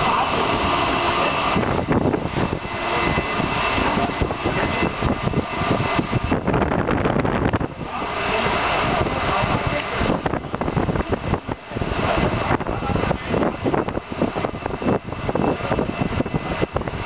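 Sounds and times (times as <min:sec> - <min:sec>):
industrial machinery roar: 0:00.0 - 0:17.0.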